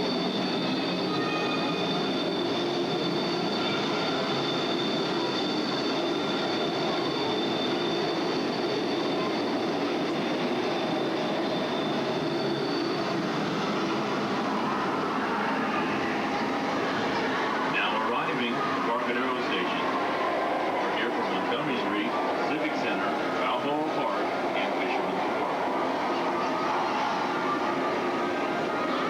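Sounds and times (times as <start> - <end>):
high squeal: 0.0 - 29.0.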